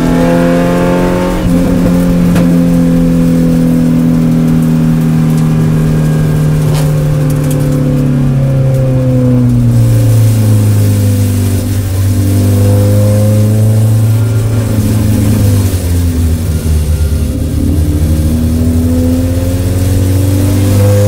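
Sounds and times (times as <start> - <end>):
car engine decelerating: 0.0 - 21.0.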